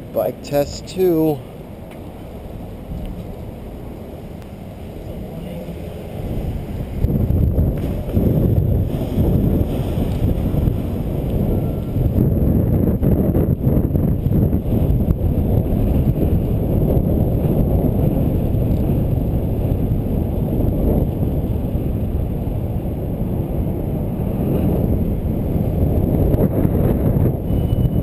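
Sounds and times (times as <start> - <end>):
wind noise on microphone: 2.0 - 28.0.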